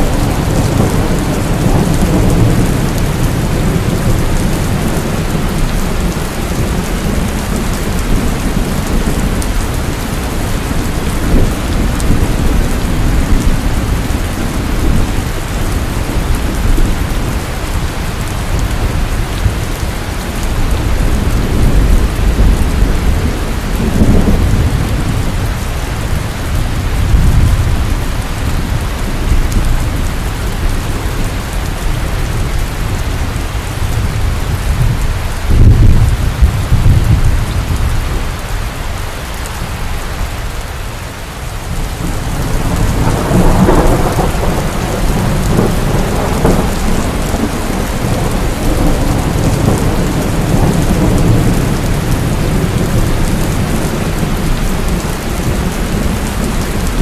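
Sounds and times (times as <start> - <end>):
thunder rumbling: 0.0 - 38.8, 41.5 - 57.0
heavy rain falling: 0.0 - 57.0.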